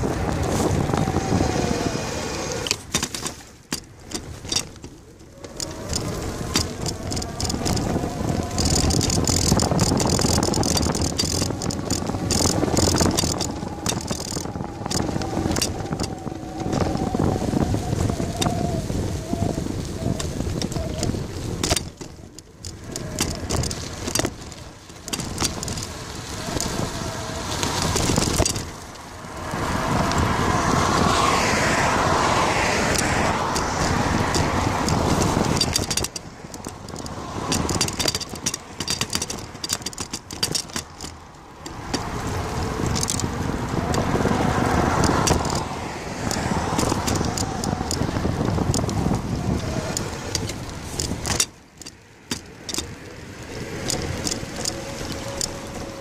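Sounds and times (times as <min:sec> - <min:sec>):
cars passing on road: 0:00.0 - 0:56.0.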